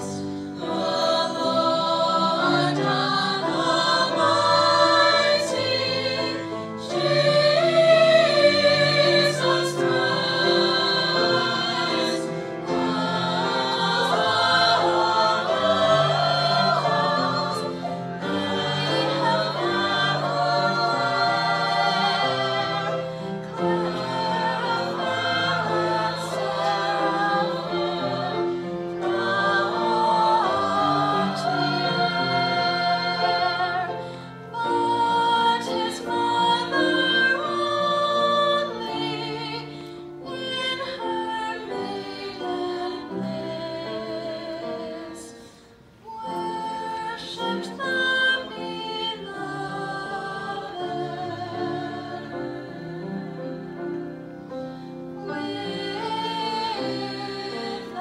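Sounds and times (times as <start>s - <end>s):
mixed choir singing: 0.0s - 58.0s
piano: 0.0s - 58.0s.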